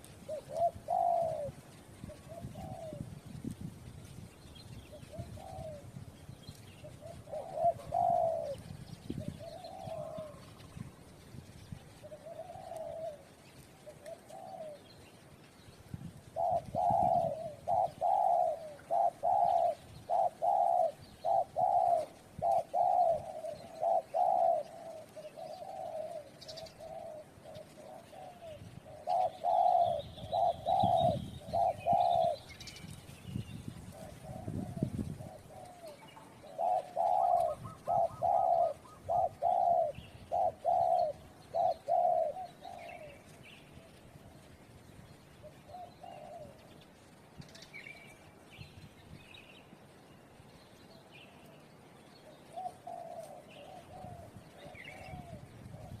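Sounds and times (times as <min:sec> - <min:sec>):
doves cooing: 0:00.0 - 0:48.2, 0:51.4 - 0:56.0.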